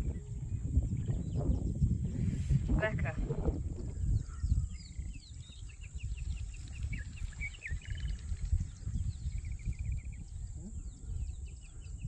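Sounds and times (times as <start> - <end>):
wild birds chirping and singing: 0.0 - 12.0.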